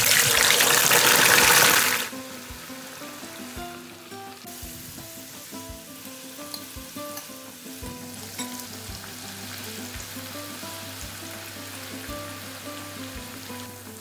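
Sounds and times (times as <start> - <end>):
hot oil sizzling: 0.0 - 14.0
background music with steady beat: 2.1 - 14.0.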